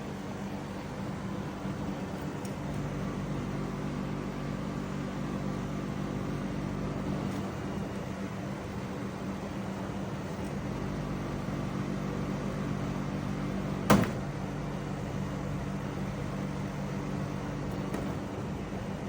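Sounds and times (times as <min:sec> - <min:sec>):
dehumidifier humming: 0:00.0 - 0:19.0.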